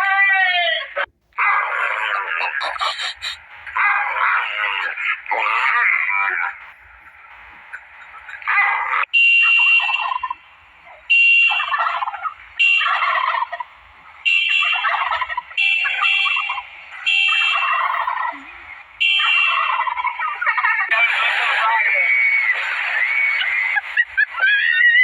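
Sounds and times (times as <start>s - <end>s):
turkey gobbling: 0.4s - 6.5s, 7.6s - 25.0s.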